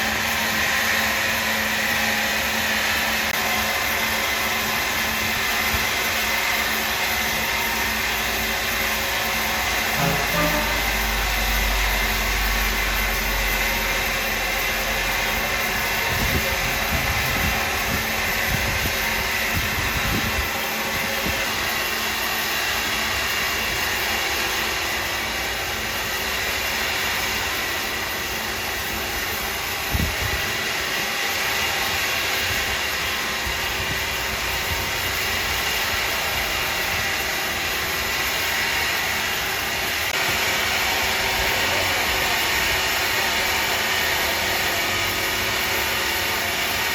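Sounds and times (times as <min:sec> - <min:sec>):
sawmill machinery whirring: 0:00.0 - 0:46.9.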